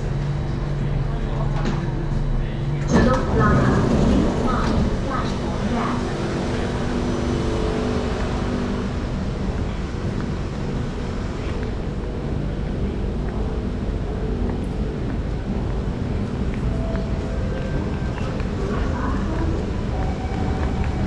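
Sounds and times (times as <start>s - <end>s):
low rumble of platform: 0.0s - 21.0s
train hum: 0.0s - 21.0s.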